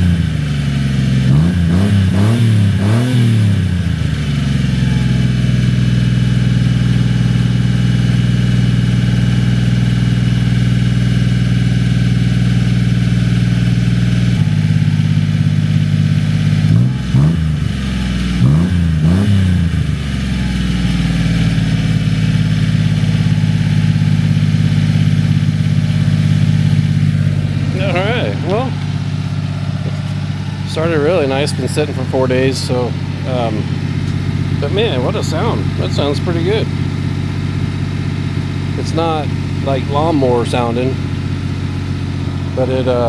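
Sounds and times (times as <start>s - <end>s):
small engine idling and revving: 0.0s - 43.0s.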